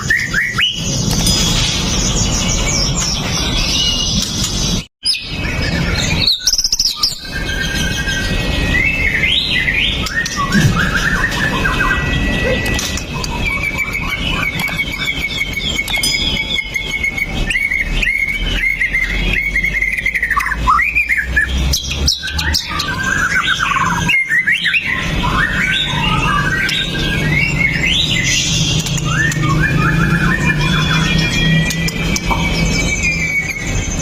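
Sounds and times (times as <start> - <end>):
bird singing whistled phrases: 0.0 - 4.2, 5.0 - 34.0.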